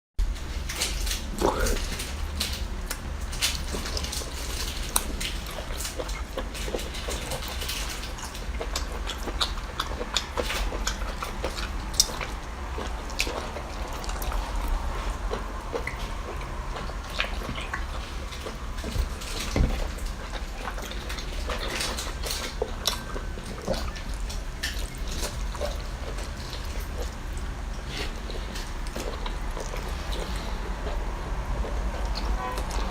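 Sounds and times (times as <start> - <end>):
steady low hum: 0.2 - 32.9
wet eating squelches: 0.8 - 32.9.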